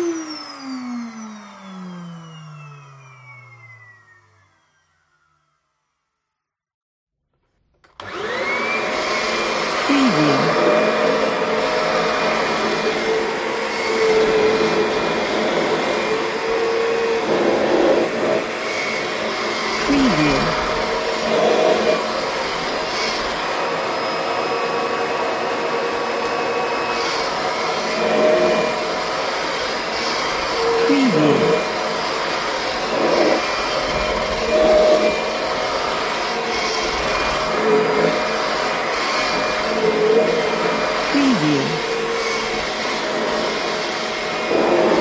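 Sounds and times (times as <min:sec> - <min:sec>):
vacuum cleaner motor whine: 0:00.0 - 0:06.5, 0:07.7 - 0:45.0.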